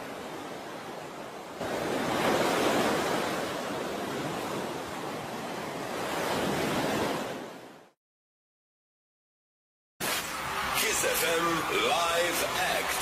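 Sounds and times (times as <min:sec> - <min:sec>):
ocean waves washing: 0:00.0 - 0:08.0, 0:10.0 - 0:13.0.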